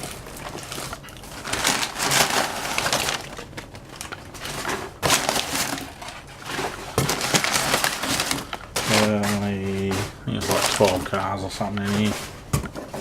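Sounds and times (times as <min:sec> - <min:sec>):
cardboard box rustling and crackling: 0:00.0 - 0:13.0.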